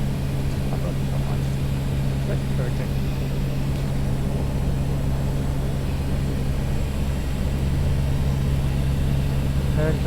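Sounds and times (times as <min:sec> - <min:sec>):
turboprop engines droning: 0:00.0 - 0:10.0.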